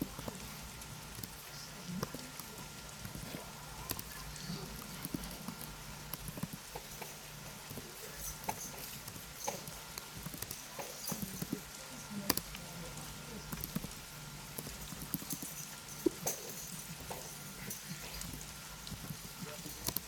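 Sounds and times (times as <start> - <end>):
computer keyboard typing: 0.0 - 20.0.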